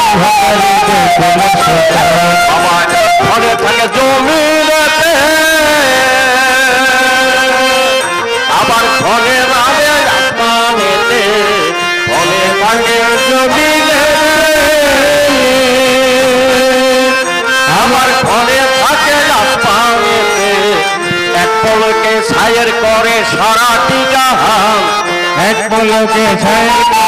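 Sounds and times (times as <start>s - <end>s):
sliding melody instrument: 0.0s - 27.0s.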